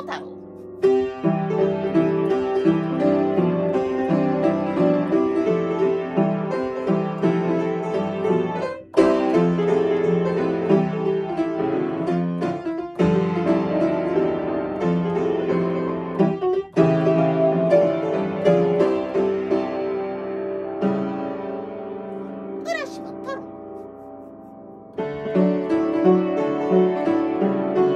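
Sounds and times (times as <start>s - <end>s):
upright piano melody: 0.0s - 27.9s.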